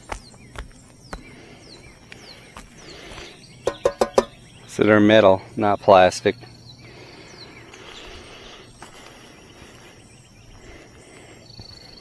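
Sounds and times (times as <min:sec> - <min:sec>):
faint insect hum: 0:00.0 - 0:12.0.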